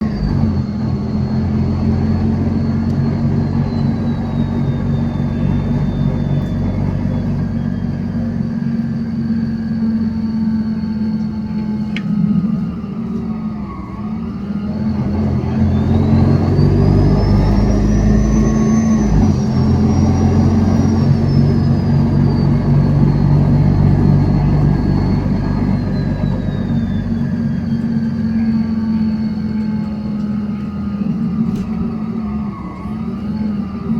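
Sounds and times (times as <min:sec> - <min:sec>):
bus engine pulling away: 0:00.0 - 0:33.9
high engine whine: 0:00.0 - 0:33.9.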